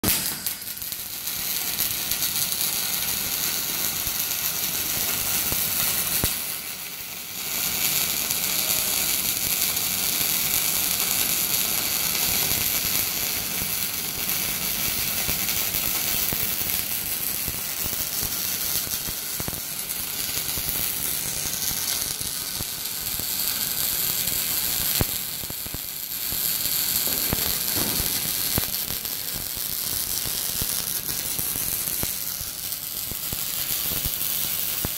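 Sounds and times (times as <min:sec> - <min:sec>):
welding arc crackling: 0:00.0 - 0:34.9.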